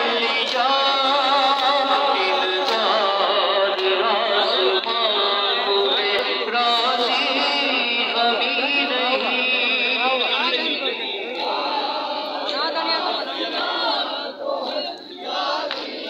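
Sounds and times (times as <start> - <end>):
mourning lament chanted: 0.0 - 16.0.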